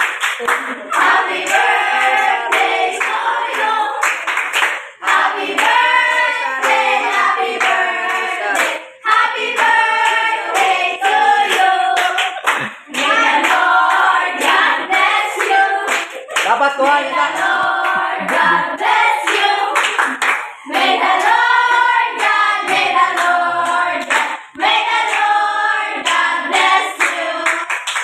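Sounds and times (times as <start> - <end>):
hand claps: 0.0 - 5.8, 6.6 - 14.8, 15.4 - 18.6, 19.3 - 20.6, 21.2 - 25.4, 26.0 - 28.0
women singing together: 0.8 - 27.8.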